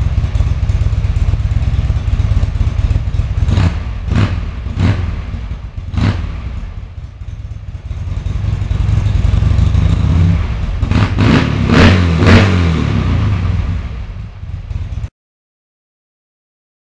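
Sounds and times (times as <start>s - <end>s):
motorcycle engine idling and revving: 0.0s - 15.1s.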